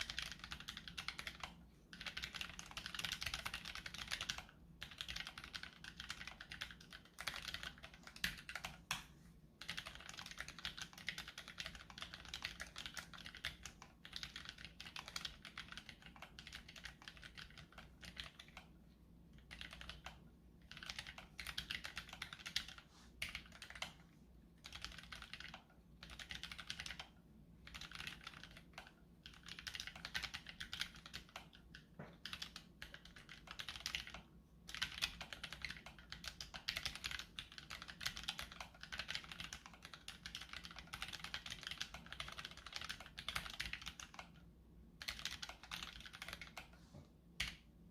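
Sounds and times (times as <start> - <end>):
mechanical keyboard typing: 0.0 - 46.8, 47.4 - 47.7.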